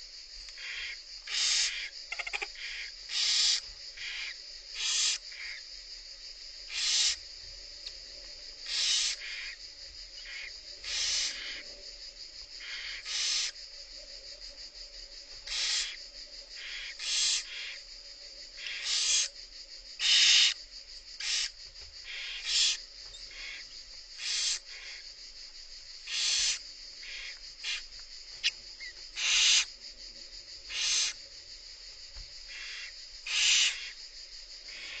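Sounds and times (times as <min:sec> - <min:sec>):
steady high hiss: 0:00.0 - 0:35.0
barn owls hissing calls: 0:00.5 - 0:05.6, 0:06.7 - 0:07.3, 0:08.6 - 0:14.6, 0:15.3 - 0:17.9, 0:18.5 - 0:29.8, 0:30.6 - 0:31.3, 0:32.4 - 0:34.0, 0:34.6 - 0:35.0.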